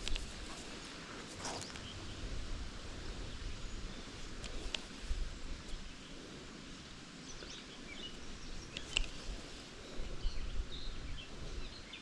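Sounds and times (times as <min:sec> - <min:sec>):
small birds chirping: 0:00.0 - 0:12.0
steady hiss: 0:00.0 - 0:12.0.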